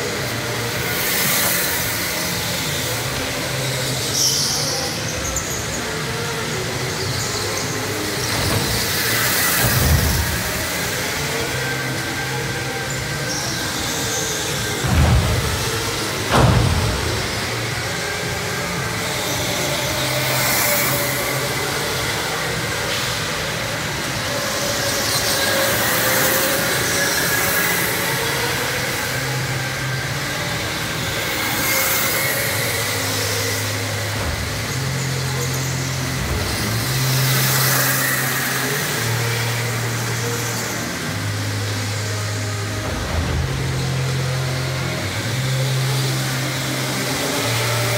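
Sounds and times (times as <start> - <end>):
go-karts passing with whine: 0.0 - 47.9.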